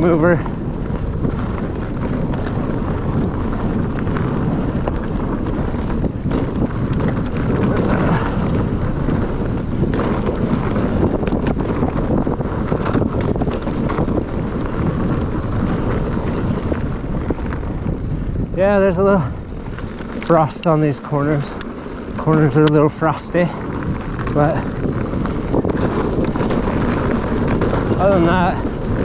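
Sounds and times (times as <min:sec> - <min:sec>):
bike clicks and rattles: 0:00.0 - 0:29.0
mountain bike rolling on dirt: 0:00.0 - 0:29.0
wind buffeting microphone: 0:00.0 - 0:29.0.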